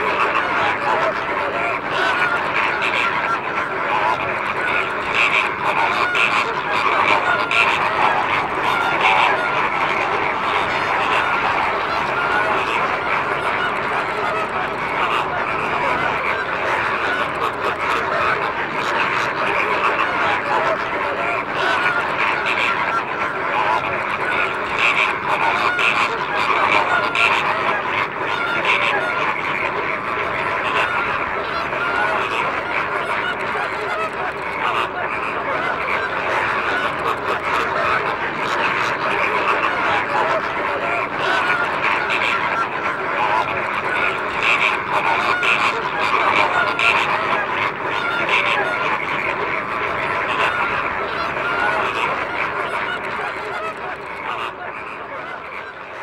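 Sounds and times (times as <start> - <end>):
flamingos calling: 0.0 - 55.8.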